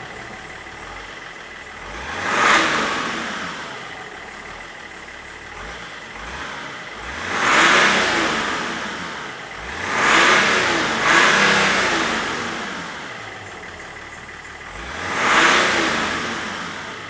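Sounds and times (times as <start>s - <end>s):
diesel engine idling: 0.0s - 17.0s
engine revving: 0.0s - 17.0s.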